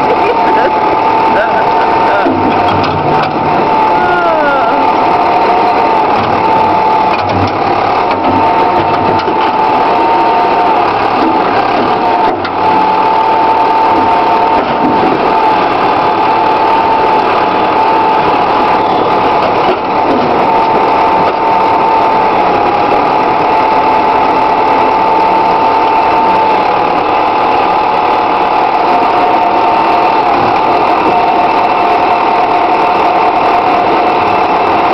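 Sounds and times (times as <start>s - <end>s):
backhoe engine running: 0.0s - 34.9s
high hydraulic whine: 0.0s - 34.9s.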